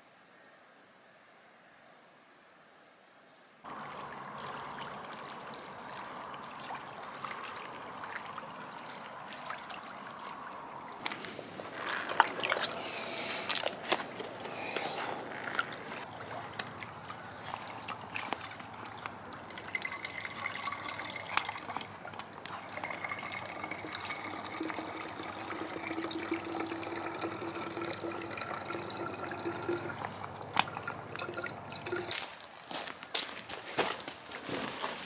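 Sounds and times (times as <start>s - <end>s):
water trickling into bottle: 3.7s - 32.3s.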